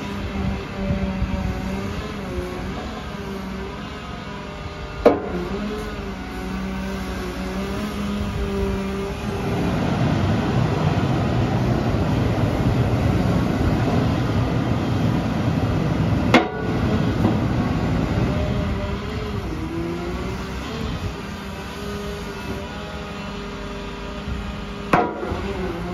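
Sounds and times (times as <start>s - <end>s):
heavy engine under hydraulic load: 0.0s - 25.9s.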